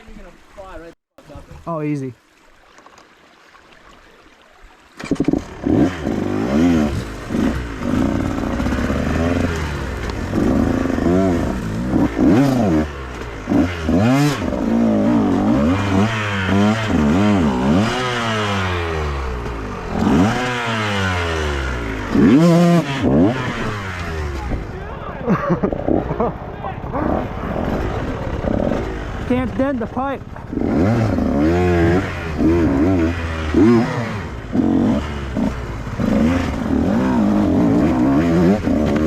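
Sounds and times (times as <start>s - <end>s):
dirt bike engine revving: 5.0s - 39.0s.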